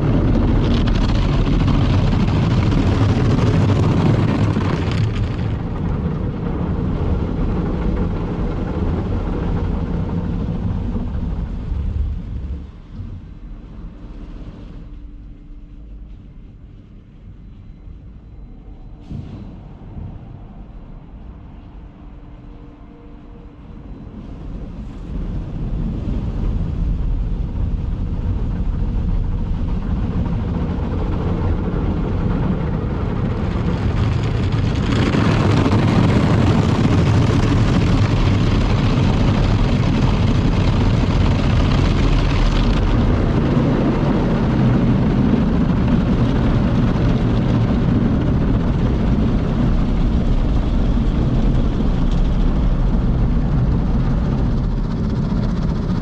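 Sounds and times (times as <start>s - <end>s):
car wash mechanical rumble: 0.0s - 56.0s.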